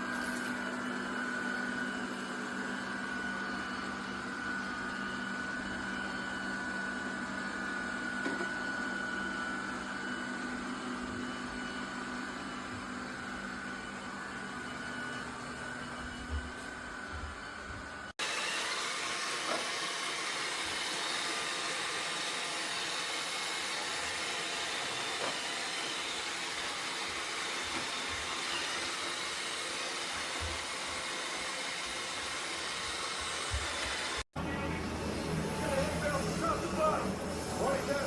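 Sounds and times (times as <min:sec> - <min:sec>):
robot vacuum running: 0:00.0 - 0:38.0.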